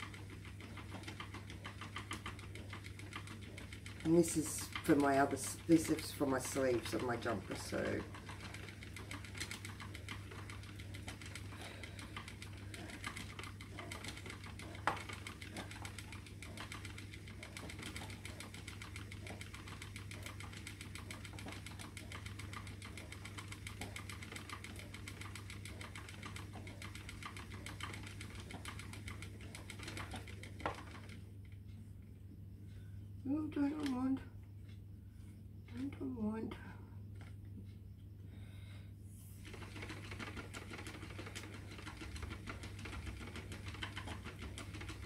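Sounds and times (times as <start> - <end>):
spinning wheel clicking: 0.0 - 32.2, 39.4 - 45.0.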